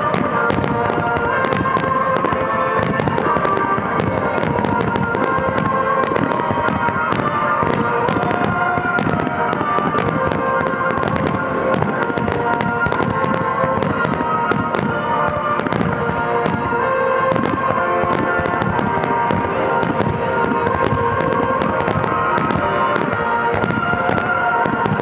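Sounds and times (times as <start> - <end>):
music: 0.0 - 25.0.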